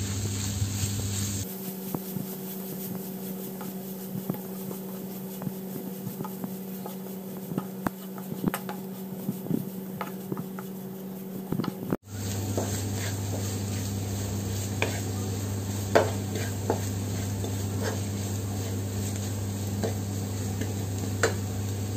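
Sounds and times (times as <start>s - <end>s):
spatula stirring onions in pan: 0.0s - 21.9s.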